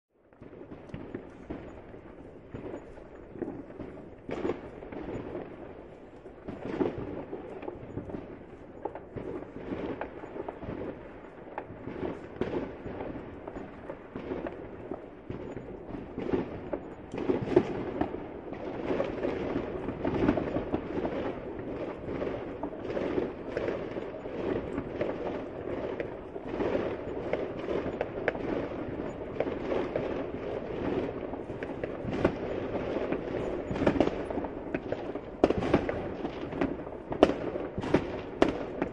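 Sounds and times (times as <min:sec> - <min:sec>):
fireworks popping and banging: 0:00.2 - 0:38.9.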